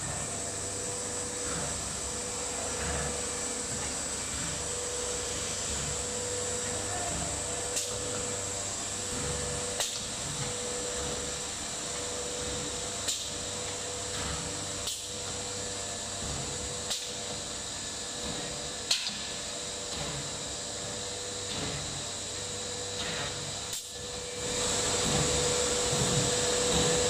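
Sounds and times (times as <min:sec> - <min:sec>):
cnc router whining: 0:00.0 - 0:27.0.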